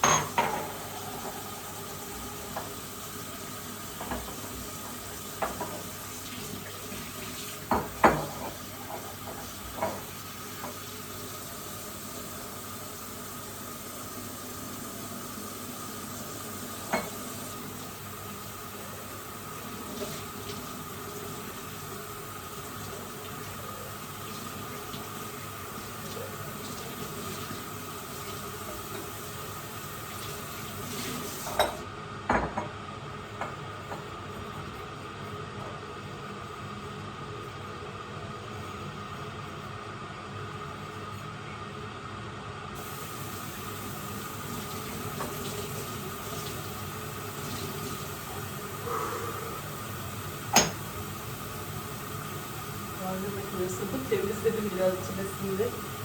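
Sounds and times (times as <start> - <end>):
water running into sink: 0.0 - 31.8, 42.8 - 56.0.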